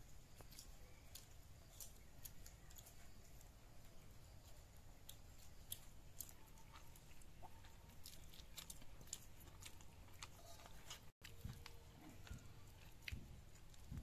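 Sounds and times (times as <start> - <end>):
low background hum: 0.0 - 14.0
chewing clicks and smacks: 0.3 - 3.5, 4.4 - 14.0.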